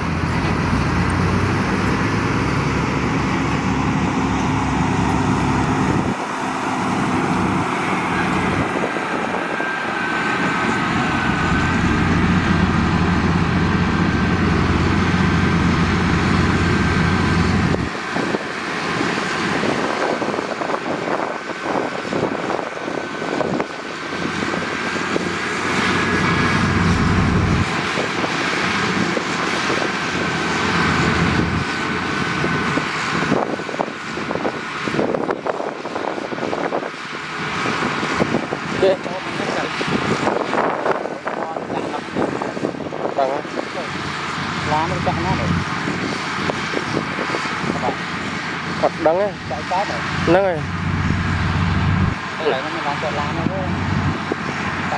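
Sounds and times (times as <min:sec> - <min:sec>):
diesel machinery engine: 0:00.0 - 0:54.9.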